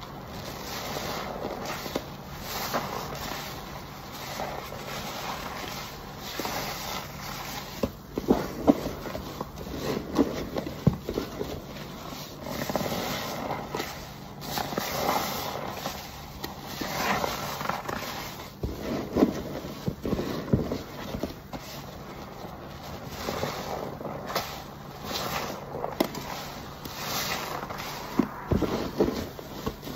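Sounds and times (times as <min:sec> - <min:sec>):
wet squelching sponges with foam: 0:00.0 - 0:29.9.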